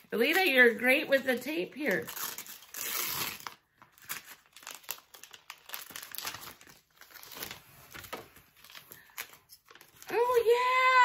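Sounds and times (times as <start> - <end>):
wrapping paper tearing and crumpling: 0.0 - 11.0.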